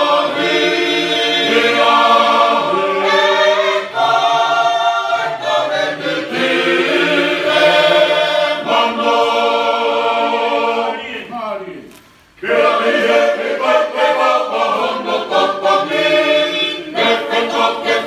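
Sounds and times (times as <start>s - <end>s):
choir singing a hymn: 0.0s - 11.3s, 12.4s - 18.0s.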